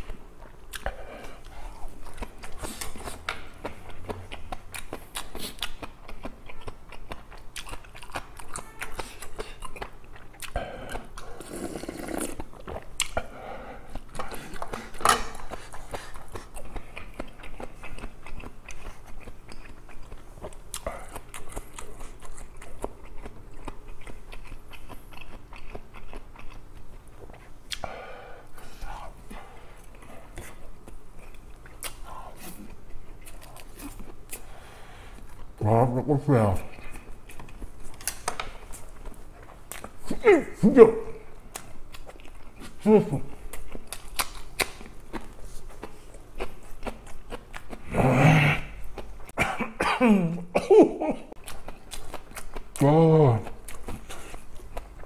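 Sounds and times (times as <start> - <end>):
person chewing and crunching food: 0.0 - 49.5, 50.2 - 55.0.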